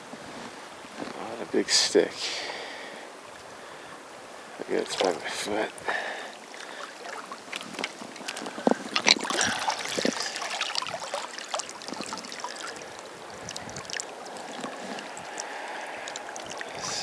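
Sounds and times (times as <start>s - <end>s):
river current rushing: 0.6s - 17.0s
water splashing and dripping off stick: 2.0s - 17.0s.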